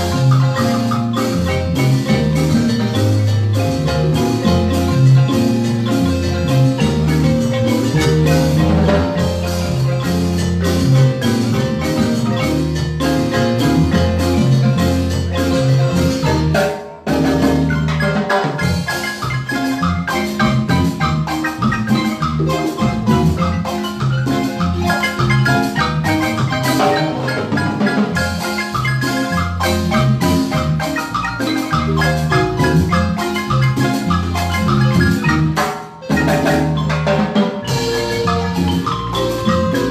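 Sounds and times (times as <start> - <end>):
marimba ensemble playing: 0.0 - 39.9.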